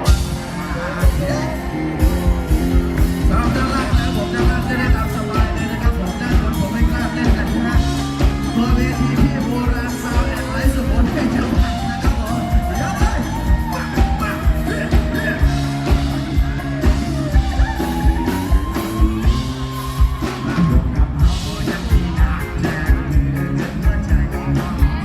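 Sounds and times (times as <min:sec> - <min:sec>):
live band music: 0:00.0 - 0:25.0
steady drum beat: 0:00.0 - 0:25.0.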